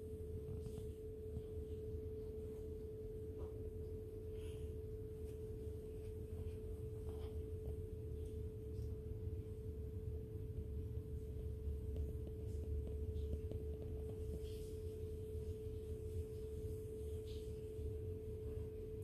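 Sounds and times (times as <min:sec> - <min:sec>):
low rumble: 0:00.0 - 0:19.0
steady single-pitched hum: 0:00.0 - 0:19.0.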